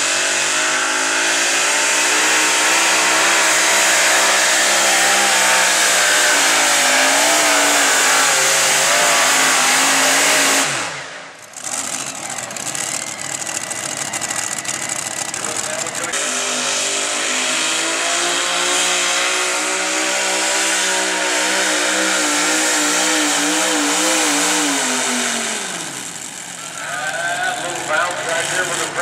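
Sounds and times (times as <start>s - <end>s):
rough engine with crackling: 0.0s - 29.0s
tractor engines at full throttle: 0.0s - 29.0s.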